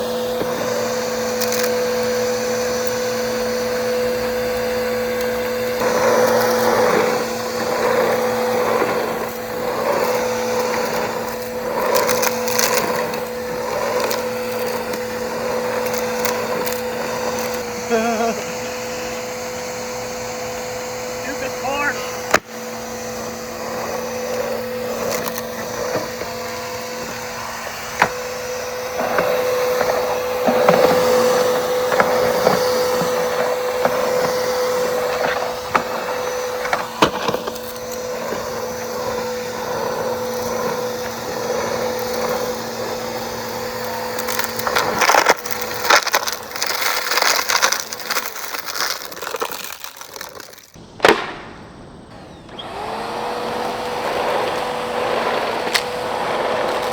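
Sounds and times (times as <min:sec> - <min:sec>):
grit rattling in vacuum: 0:00.0 - 0:50.8, 0:52.5 - 0:56.9
vacuum cleaner motor whine: 0:00.0 - 0:56.9.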